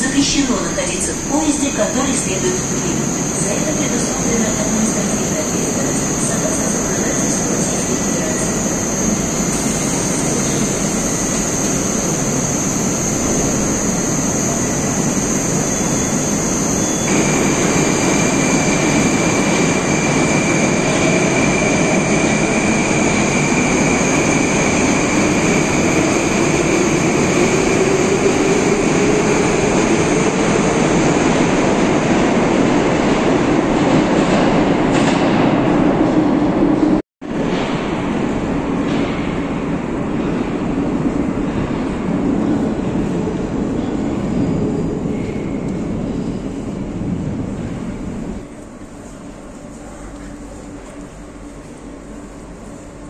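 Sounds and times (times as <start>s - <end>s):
subway train running: 0.0s - 53.0s.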